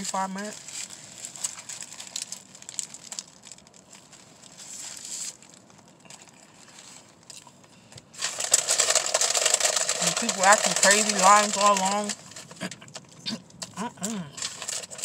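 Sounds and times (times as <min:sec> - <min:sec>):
paper wrapper crinkling: 0:00.0 - 0:13.7, 0:14.4 - 0:15.0.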